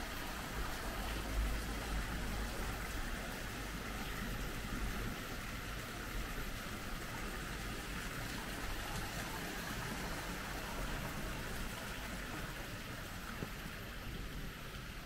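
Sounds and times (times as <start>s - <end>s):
water pouring into pool: 0.0s - 15.0s.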